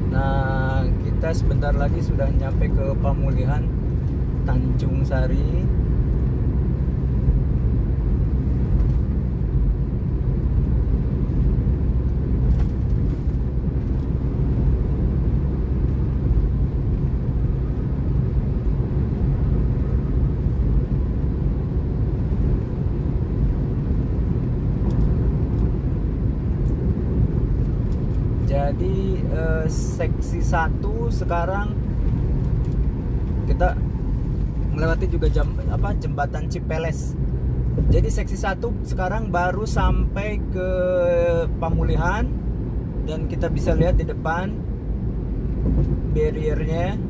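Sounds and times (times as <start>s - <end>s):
car engine hum: 0.0s - 47.0s.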